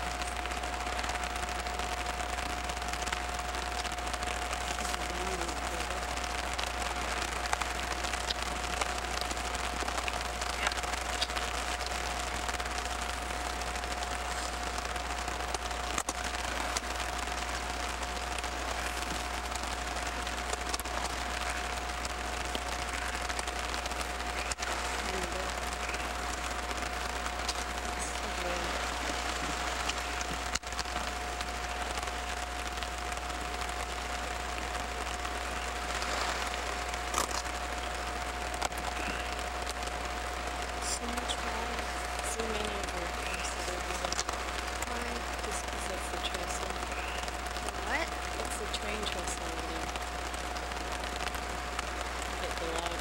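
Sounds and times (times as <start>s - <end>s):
low hum: 0.0s - 53.0s
steady rain falling: 0.0s - 53.0s.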